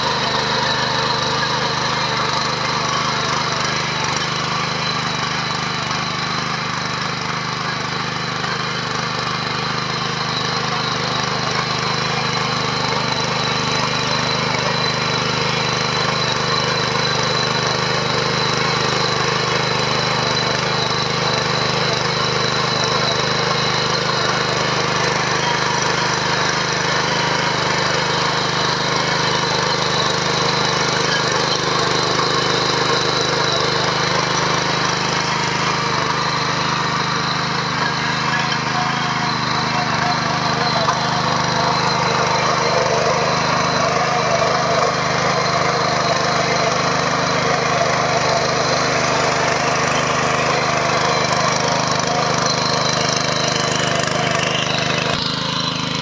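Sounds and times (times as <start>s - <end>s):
tiller engine running: 0.0s - 56.0s
tines churning through soil: 0.0s - 56.0s.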